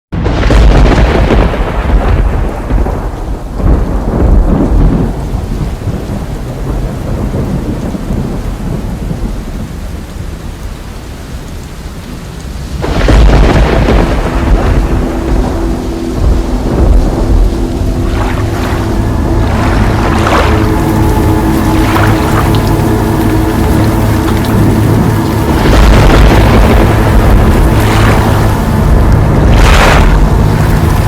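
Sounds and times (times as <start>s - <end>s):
thunder rumbling: 0.1s - 10.6s, 12.1s - 31.0s
steady rain: 0.1s - 31.0s.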